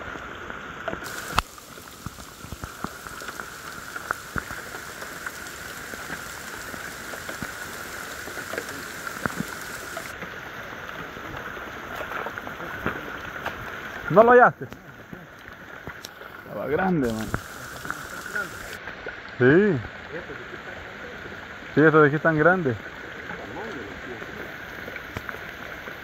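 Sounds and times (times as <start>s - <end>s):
rain on foliage and mud: 0.0s - 26.0s.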